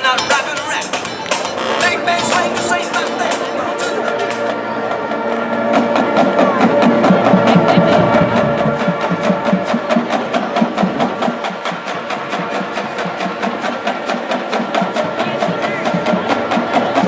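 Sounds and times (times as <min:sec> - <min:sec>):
marching band held chords: 0:00.0 - 0:17.0
quick percussion beat: 0:00.0 - 0:17.0.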